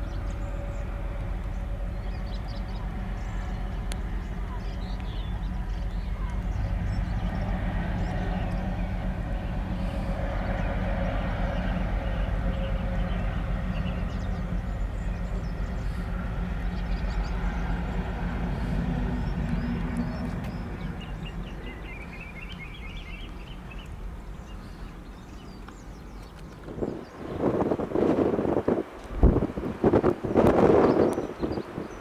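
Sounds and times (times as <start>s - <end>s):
birds chirping: 0.0s - 28.0s, 30.2s - 32.0s
diesel locomotive engine drone: 0.0s - 32.0s.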